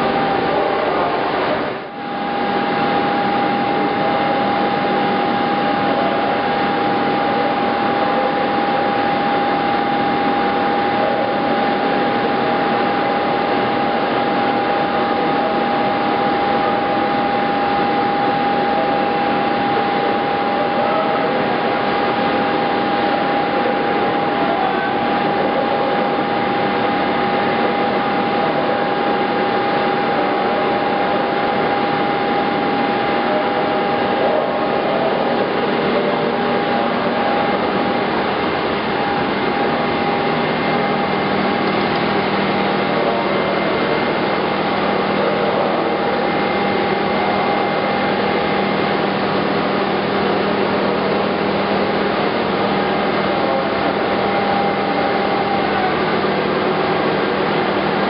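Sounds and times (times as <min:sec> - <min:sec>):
grinder machine whine: 0:00.0 - 0:58.0
low machine hum: 0:00.0 - 0:58.0.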